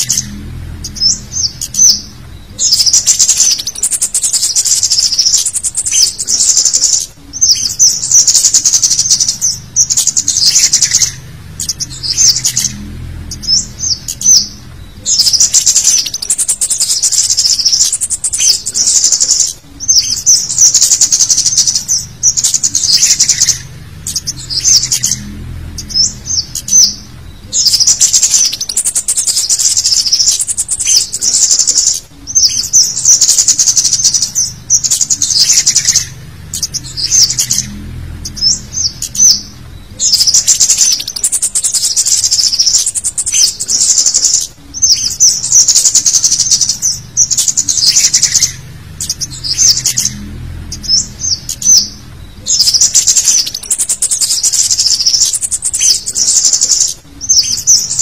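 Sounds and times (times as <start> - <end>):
bird chittering calls: 0.0 - 58.0.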